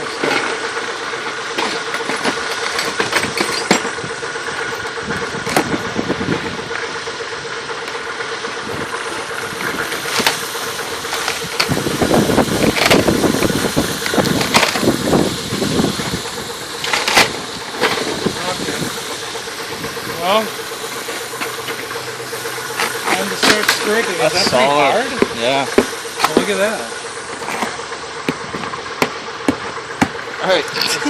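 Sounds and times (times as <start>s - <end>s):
knocks clicks and scraping: 0.0s - 6.5s, 8.7s - 31.0s
steady motor hum: 0.0s - 31.0s.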